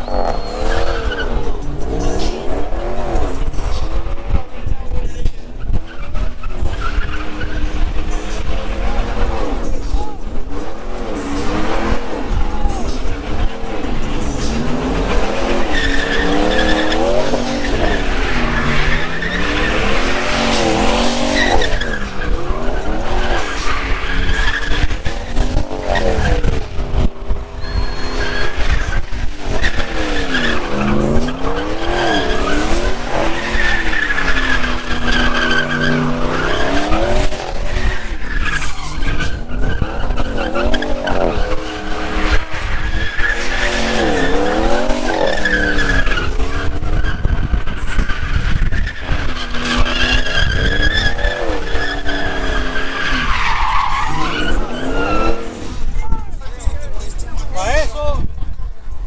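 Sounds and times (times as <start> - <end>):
truck engine revving: 0.0 - 57.8
tyres squealing: 0.0 - 58.0.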